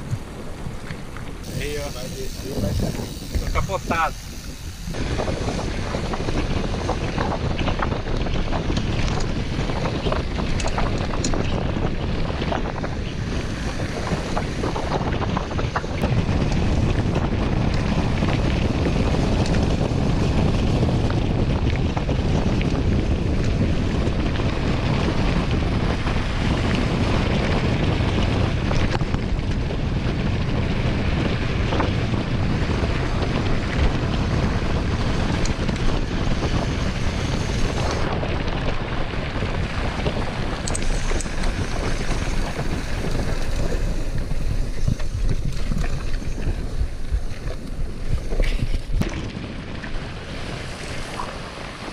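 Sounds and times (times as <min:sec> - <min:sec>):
bike rattling: 0:00.0 - 0:51.9
wind buffeting microphone: 0:00.0 - 0:51.9.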